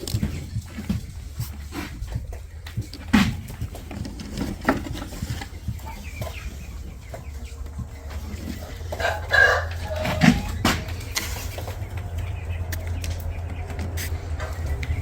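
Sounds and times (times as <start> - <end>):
chickens clucking: 0.0 - 15.0
steady low rumble: 0.0 - 15.0.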